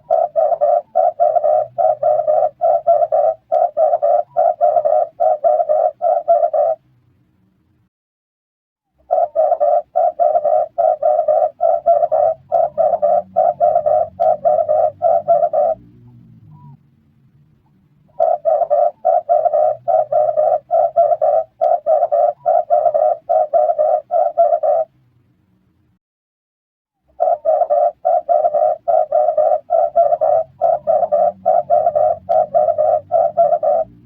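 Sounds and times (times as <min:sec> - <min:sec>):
dove cooing: 0:00.0 - 0:06.8, 0:09.0 - 0:16.8, 0:18.1 - 0:24.9, 0:27.1 - 0:34.0.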